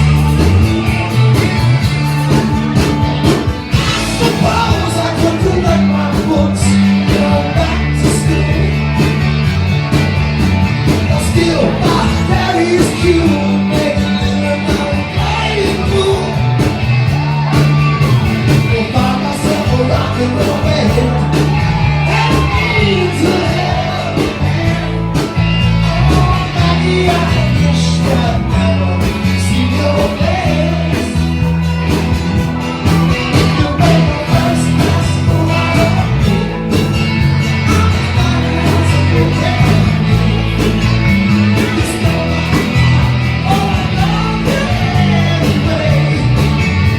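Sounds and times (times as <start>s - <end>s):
voices singing: 0.0s - 9.2s, 10.9s - 46.9s
live rock band: 0.0s - 46.9s.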